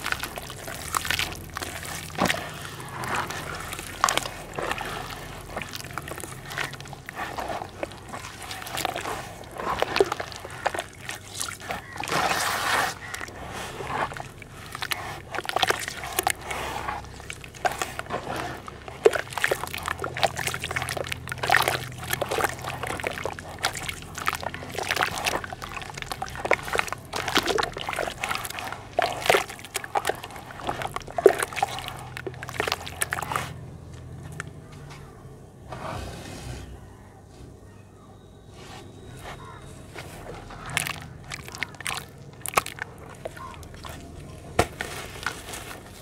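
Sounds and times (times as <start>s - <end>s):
hands sloshing in muddy water: 0.0s - 34.6s, 38.7s - 46.0s.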